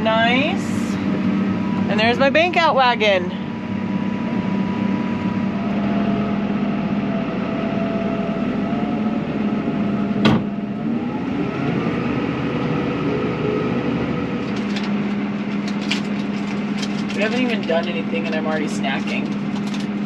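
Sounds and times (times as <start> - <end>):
tractor engine hum from cab: 0.0 - 20.0.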